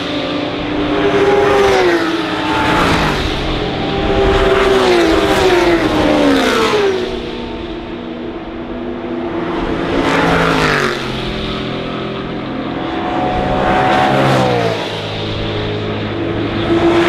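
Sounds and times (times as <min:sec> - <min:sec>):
racing cars passing at speed: 0:00.0 - 0:17.0.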